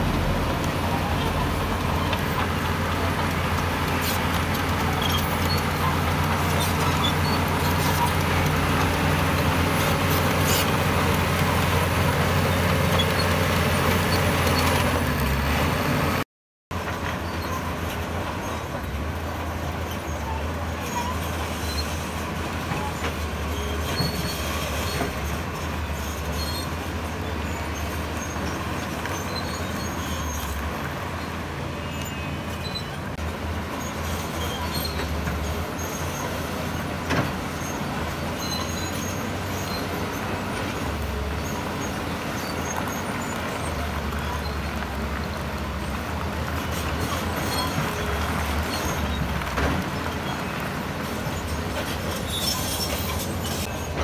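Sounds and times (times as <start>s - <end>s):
diesel construction machinery running: 0.0s - 54.0s.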